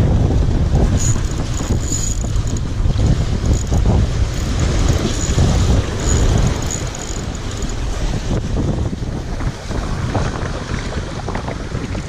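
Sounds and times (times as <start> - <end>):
waves breaking against concrete: 0.0 - 12.0
wind buffeting microphone: 0.0 - 12.0.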